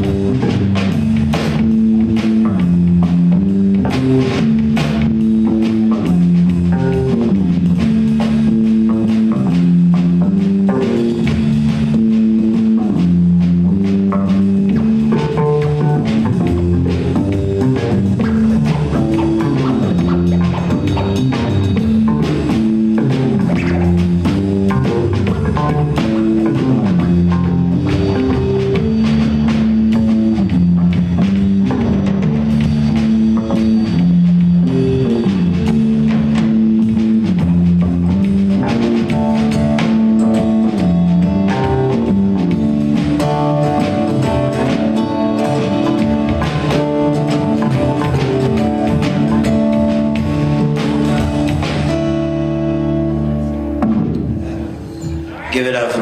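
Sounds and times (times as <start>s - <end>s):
bass guitar: 0.0s - 56.0s
drum kit: 0.0s - 56.0s.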